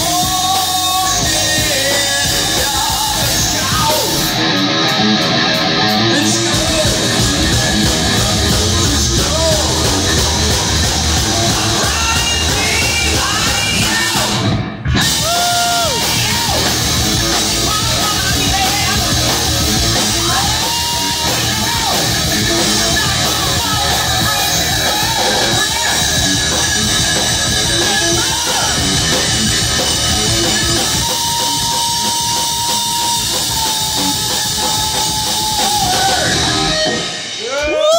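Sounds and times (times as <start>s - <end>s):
heavy metal band playing: 0.0s - 37.9s
singer yelling and singing: 0.0s - 37.9s.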